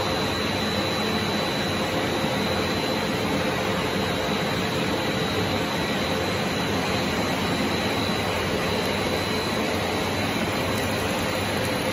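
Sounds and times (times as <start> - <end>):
faint high whine: 0.0 - 10.8
machine drone and hiss: 0.0 - 11.9.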